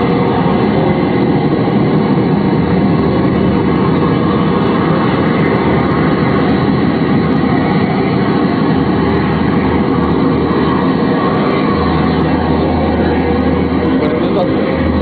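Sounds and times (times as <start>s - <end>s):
electronic drone: 0.0s - 15.0s.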